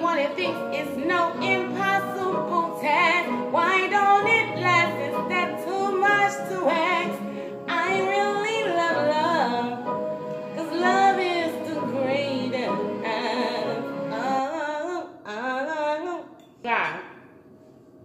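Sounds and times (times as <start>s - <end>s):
sustained musical backing: 0.0s - 15.1s.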